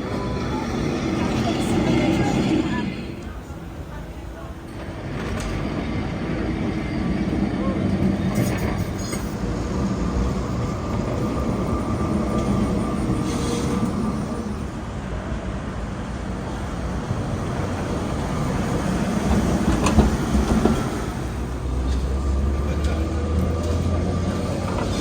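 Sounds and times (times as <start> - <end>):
tram rumbling on rails: 0.0 - 25.0.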